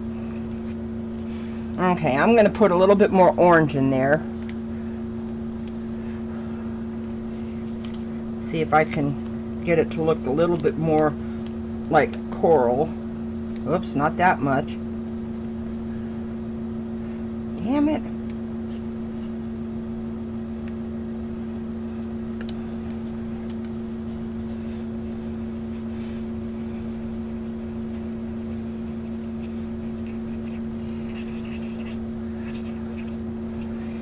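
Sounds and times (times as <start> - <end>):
low hum of room machinery: 0.0 - 34.0.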